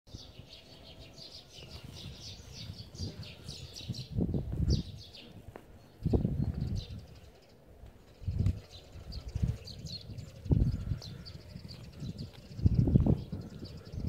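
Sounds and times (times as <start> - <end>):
songbird chirping: 0.1 - 14.0.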